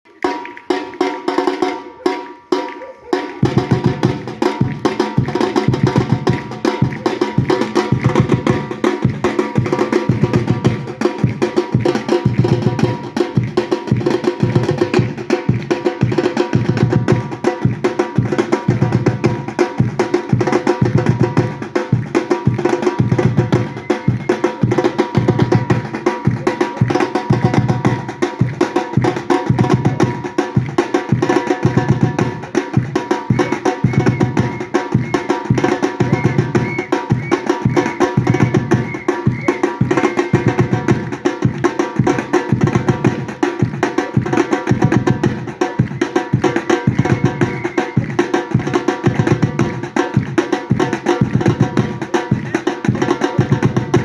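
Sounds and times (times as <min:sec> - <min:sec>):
samba percussion ensemble: 0:00.0 - 0:54.0
deep drum beats: 0:00.7 - 0:54.0.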